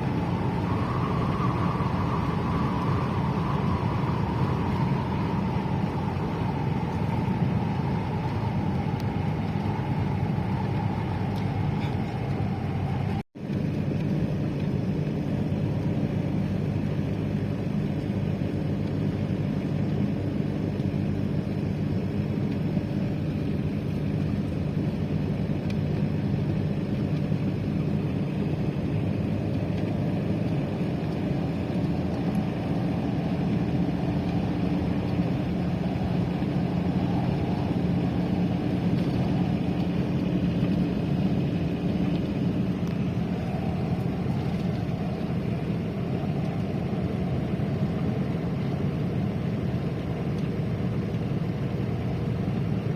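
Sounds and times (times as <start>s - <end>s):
road noise: 0.0s - 52.9s
vehicle engine hum: 0.0s - 52.9s.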